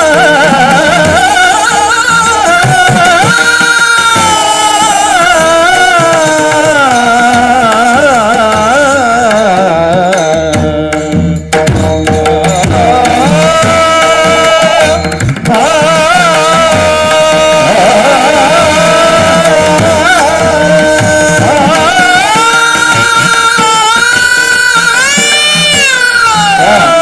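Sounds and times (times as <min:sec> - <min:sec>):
hand drum strokes: 0:00.0 - 0:27.0
person singing devotional song: 0:00.0 - 0:27.0.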